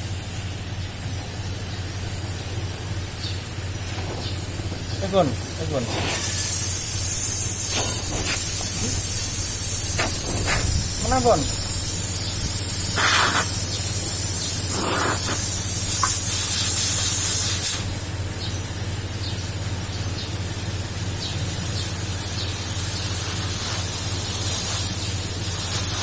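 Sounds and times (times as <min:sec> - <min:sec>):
compressed air hissing: 0:00.0 - 0:20.1, 0:21.2 - 0:26.0
steady low hum: 0:00.0 - 0:26.0.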